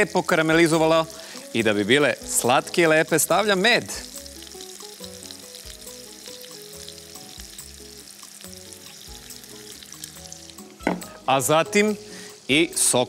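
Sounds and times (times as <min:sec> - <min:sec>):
fruit sizzling in butter: 0:00.0 - 0:13.0
soft background music: 0:00.0 - 0:13.0.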